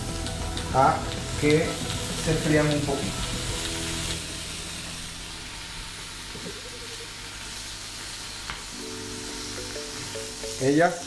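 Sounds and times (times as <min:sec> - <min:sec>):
bacon sizzling in a skillet: 0:00.0 - 0:11.0.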